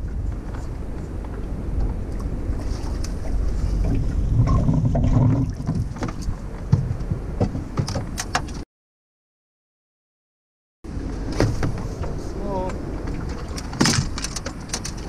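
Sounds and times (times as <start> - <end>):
wind buffeting the microphone: 0.0 - 8.6, 10.9 - 15.0.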